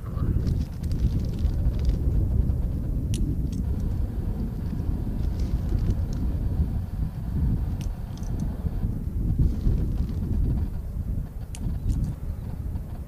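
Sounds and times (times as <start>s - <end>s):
turboprop engine rumble: 0.0s - 13.0s.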